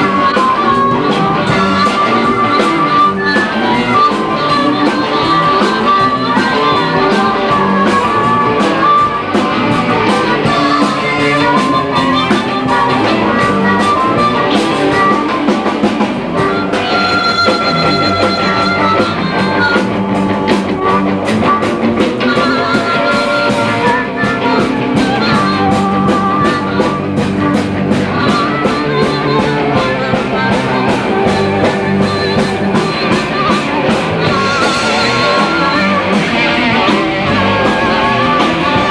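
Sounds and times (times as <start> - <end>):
guitar: 0.0 - 38.9
steady drum beat: 0.0 - 38.9.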